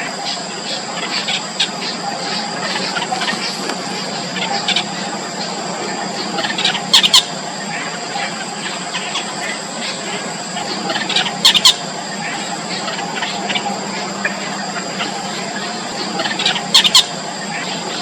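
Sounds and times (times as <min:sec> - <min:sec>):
bird chicks squeaking: 0:00.0 - 0:18.0.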